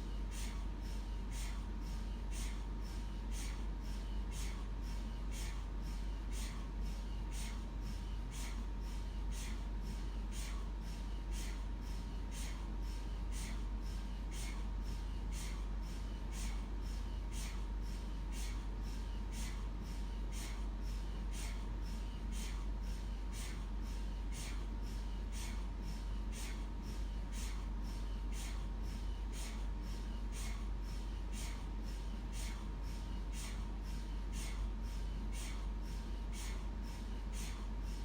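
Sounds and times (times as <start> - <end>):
mri scanner rhythmic knocking: 0.0 - 38.0.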